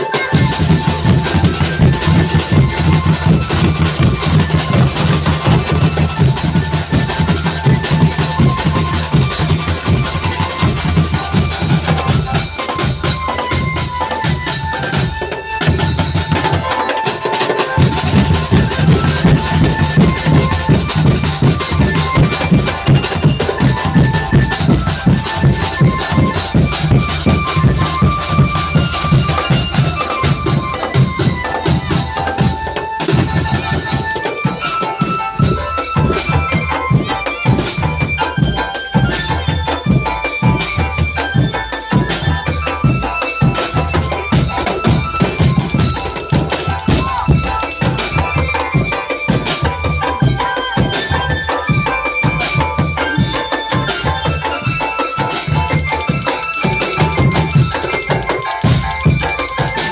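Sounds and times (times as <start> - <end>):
drum band playing: 0.0 - 59.9
melody of held notes: 0.0 - 59.9.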